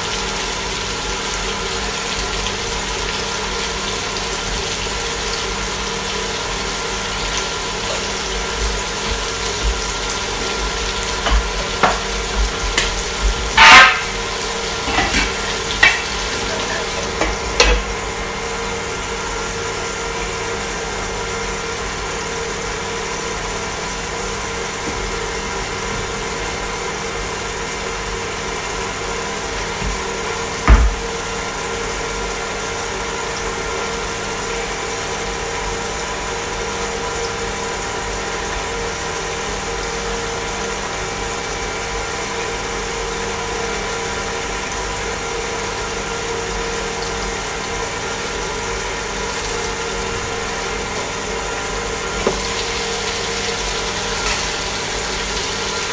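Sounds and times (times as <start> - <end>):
fan hiss: 0.0 - 55.9
induction cooker humming: 0.0 - 55.9.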